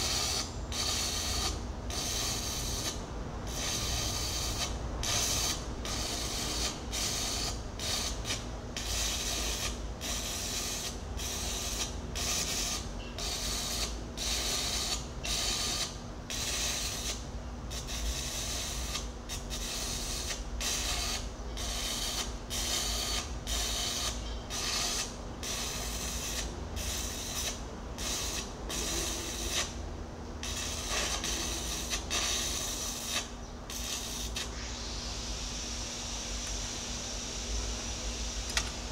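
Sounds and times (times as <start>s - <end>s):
arc welding crackle: 0.0s - 29.8s, 30.4s - 34.6s
steady low hum: 0.0s - 38.9s.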